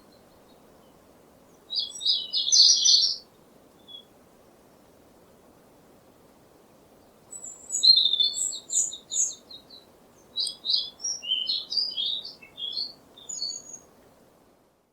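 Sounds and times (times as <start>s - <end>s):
songbird singing: 0.0s - 5.1s, 6.8s - 14.3s
faint background hiss: 0.0s - 14.9s.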